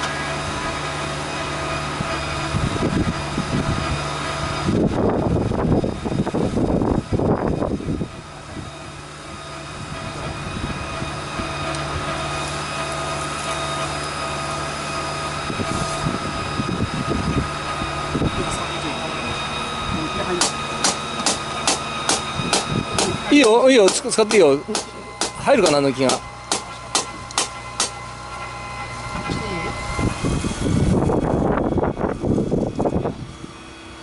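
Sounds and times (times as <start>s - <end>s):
machine motor humming: 0.0s - 34.0s.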